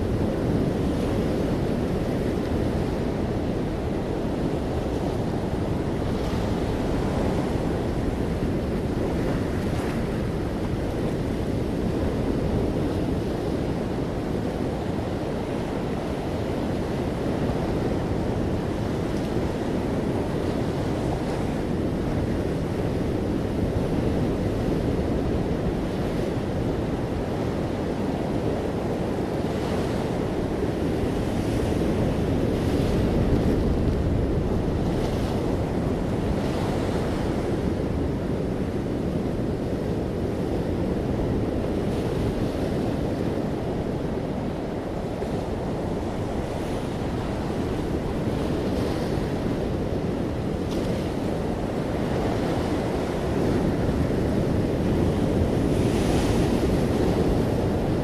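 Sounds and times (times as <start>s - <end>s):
ocean waves on a beach: 0.0s - 58.0s.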